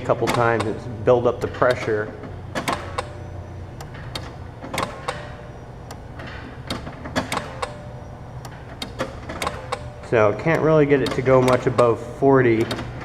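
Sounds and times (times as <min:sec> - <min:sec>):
ignition switch and relay clicks: 0:00.0 - 0:13.0.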